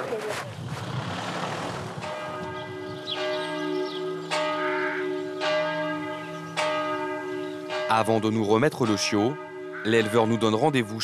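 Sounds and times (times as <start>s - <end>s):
church bell tolling: 2.0s - 11.0s.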